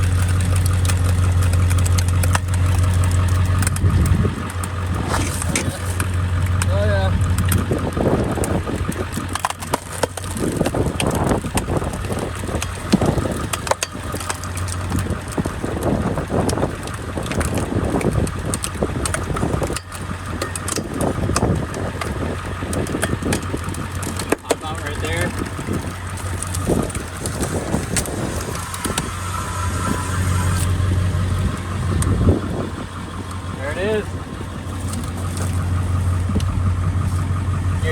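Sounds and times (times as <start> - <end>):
sharp clicks and knocks: 0.0 - 30.8
log splitter cracking wood: 0.0 - 37.9
truck engine idling hum: 0.0 - 37.9.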